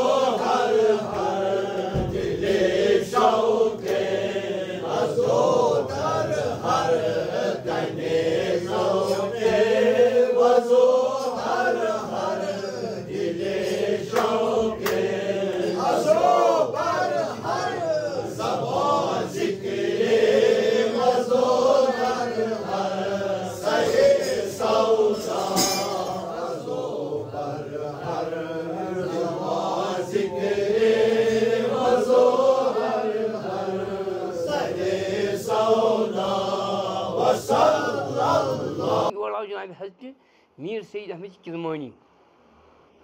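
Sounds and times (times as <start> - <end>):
men chanting together: 0.0 - 39.2.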